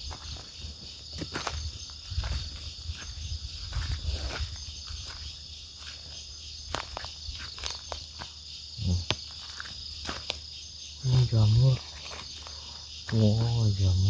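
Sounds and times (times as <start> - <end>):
footsteps in undergrowth: 0.0 - 8.4, 9.0 - 13.8
insects chorus: 0.0 - 14.0.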